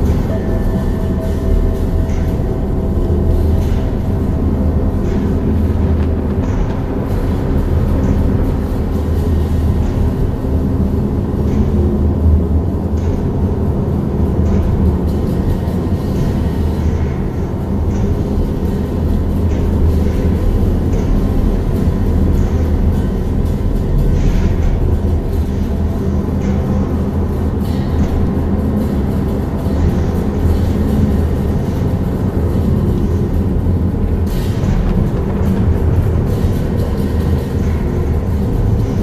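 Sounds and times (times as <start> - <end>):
deep sustained drone tones: 0.0 - 39.0.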